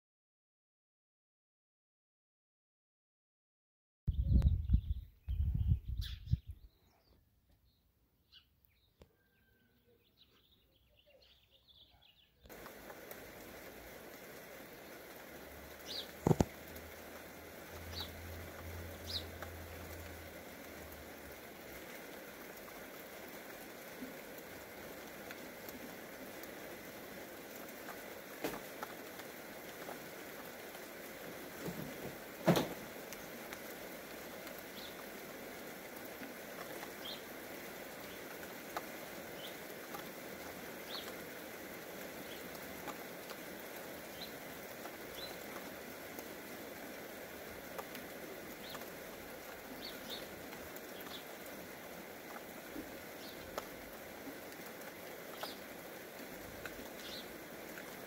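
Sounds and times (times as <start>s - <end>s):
steady rain on vegetation: 8.7s - 58.0s.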